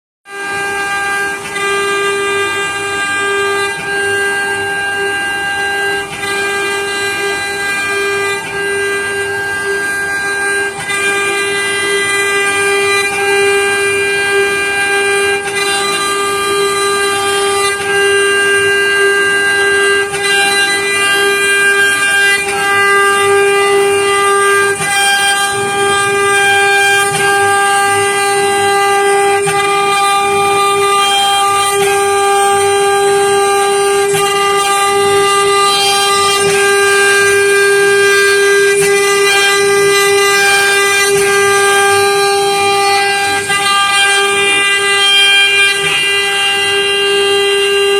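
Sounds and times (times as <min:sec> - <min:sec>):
router spindle whine: 0:00.3 - 0:47.9
cutter rasping in wood: 0:00.4 - 0:47.9.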